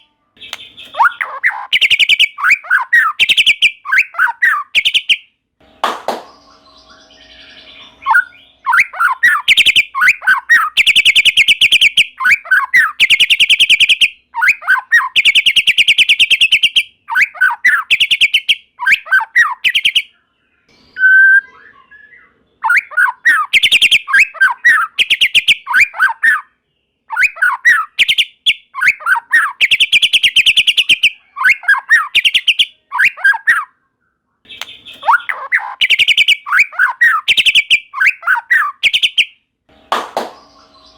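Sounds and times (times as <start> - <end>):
songbird trills and whistles: 0.4 - 5.2, 6.1 - 20.1, 20.7 - 26.5, 27.1 - 33.7, 34.5 - 39.4.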